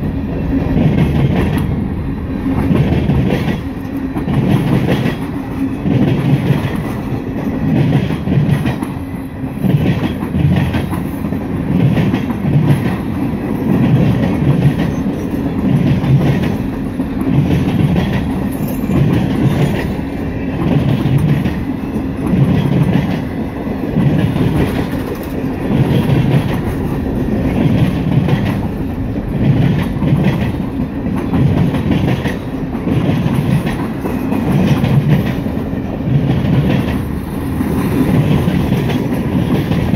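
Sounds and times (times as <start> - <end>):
clickety-clack over rail joints: 0.0 - 39.9
freight train wheels on rails: 0.0 - 39.9.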